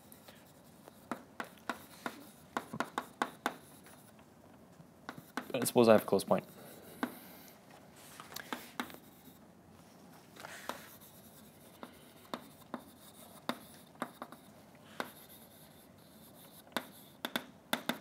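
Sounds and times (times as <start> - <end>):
chalk tapping and scratching on blackboard: 0.0 - 4.2, 5.1 - 7.5, 8.4 - 9.4, 10.4 - 18.0.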